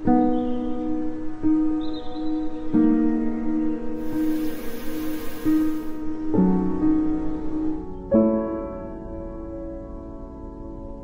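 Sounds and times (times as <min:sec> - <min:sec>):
soft sad piano piece: 0:00.0 - 0:11.0.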